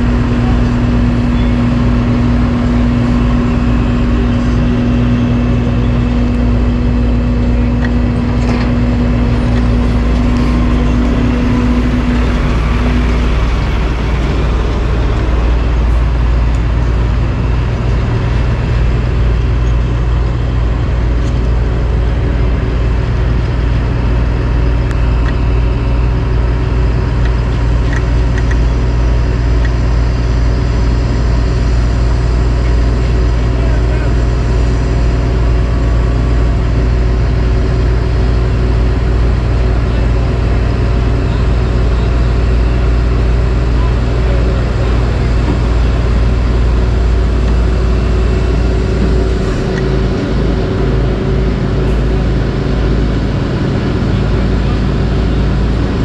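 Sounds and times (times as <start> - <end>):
heavy diesel engines rumbling: 0.0 - 56.0.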